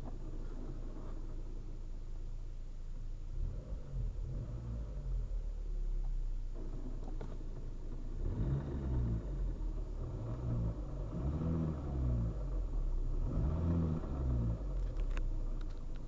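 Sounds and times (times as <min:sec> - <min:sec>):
car engine and gearbox running: 0:00.0 - 0:02.3, 0:02.9 - 0:16.0.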